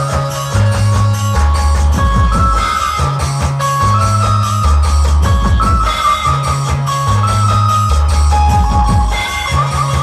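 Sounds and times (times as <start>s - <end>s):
electric banjo melody: 0.0s - 10.0s.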